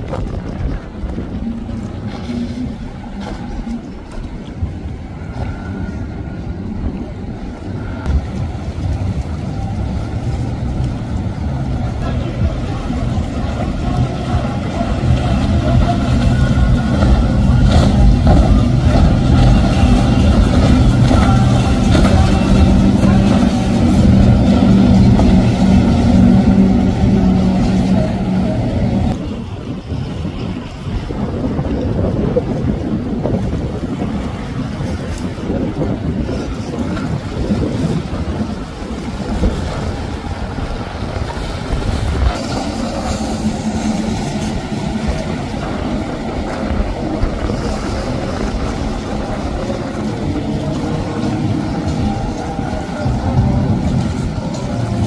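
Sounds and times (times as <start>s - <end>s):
motorboat running fast: 0.0s - 55.0s
outboard engines droning: 0.0s - 55.0s
rush of spray and wake: 0.0s - 55.0s
wind buffeting microphone: 0.0s - 55.0s.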